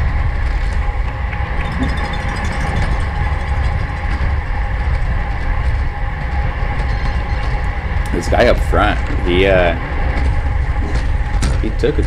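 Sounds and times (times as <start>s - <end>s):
bicycle rolling: 0.0s - 12.0s
wind buffeting microphone: 0.0s - 12.0s.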